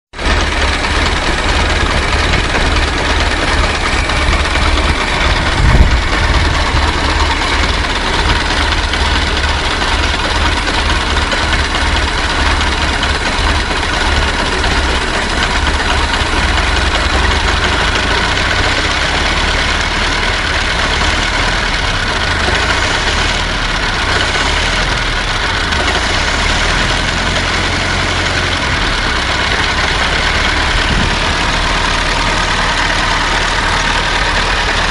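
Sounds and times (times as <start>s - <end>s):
old car engine idling: 0.1s - 34.9s.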